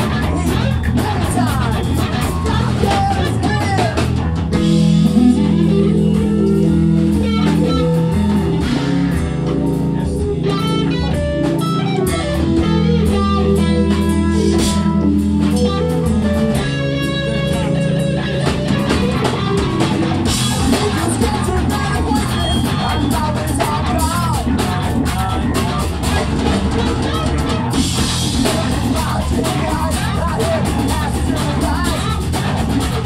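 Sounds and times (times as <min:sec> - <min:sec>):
bass guitar: 0:00.0 - 0:33.0
drum kit: 0:00.0 - 0:33.0
electric guitars: 0:00.0 - 0:33.0
keyboard chords: 0:00.0 - 0:33.0.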